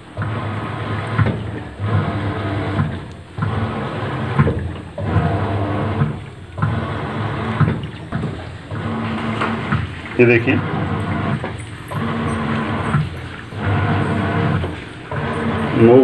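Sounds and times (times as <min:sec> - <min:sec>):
motor hum: 0:00.0 - 0:16.0
washing machine churning water: 0:00.0 - 0:16.0.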